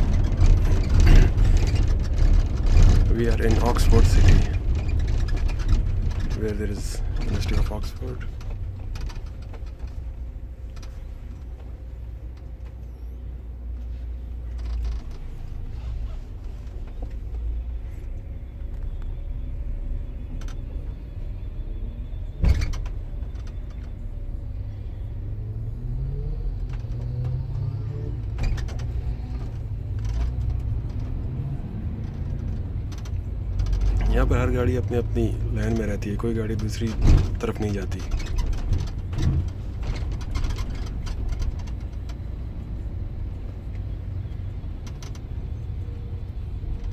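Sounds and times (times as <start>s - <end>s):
bus engine drone: 0.0s - 46.9s.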